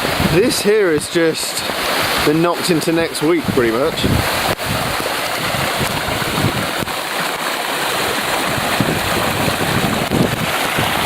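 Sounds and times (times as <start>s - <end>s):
wind buffeting microphone: 0.0s - 2.3s, 3.0s - 11.0s
floodwater rushing: 0.0s - 11.0s.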